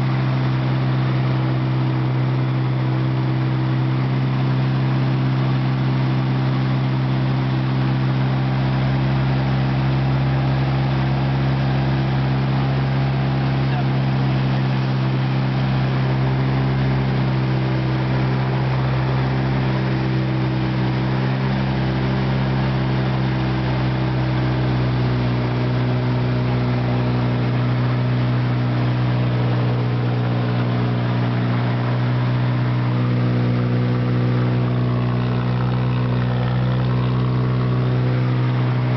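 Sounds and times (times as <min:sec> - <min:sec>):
aircraft engine drone in cabin: 0:00.0 - 0:38.9.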